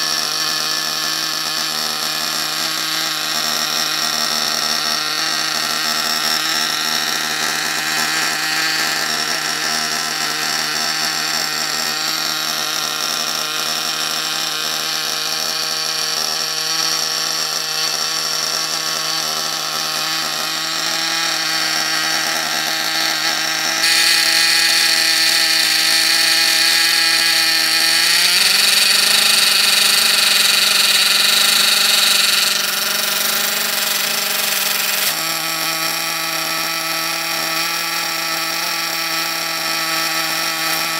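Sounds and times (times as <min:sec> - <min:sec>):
nitro engine high buzz: 0:00.0 - 0:40.9.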